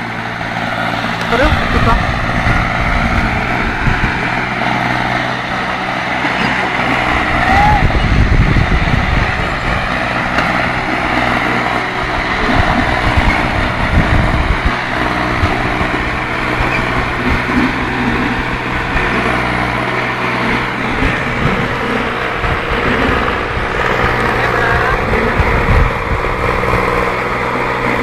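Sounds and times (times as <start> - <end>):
diesel tractors under heavy load: 0.0 - 28.0
wheels spinning in dirt: 0.0 - 28.0.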